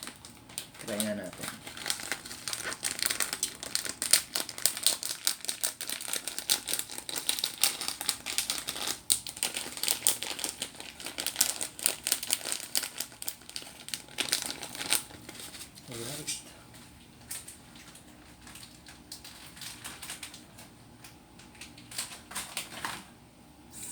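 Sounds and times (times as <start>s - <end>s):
plastic packet crinkling: 0.0s - 16.1s, 17.2s - 20.7s, 21.5s - 23.0s.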